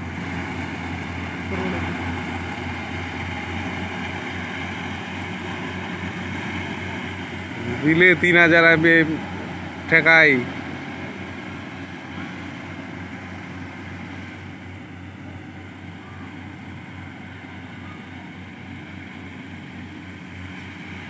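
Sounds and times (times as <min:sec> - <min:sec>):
combine harvester engine droning: 0:00.0 - 0:21.0.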